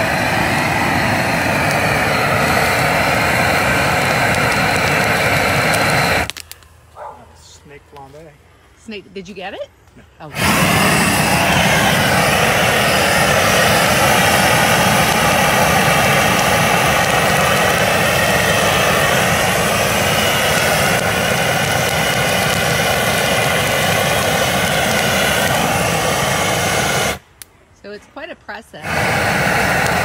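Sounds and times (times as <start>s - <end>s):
gas torch flame roaring: 0.0s - 6.6s, 10.3s - 28.0s, 28.8s - 30.0s.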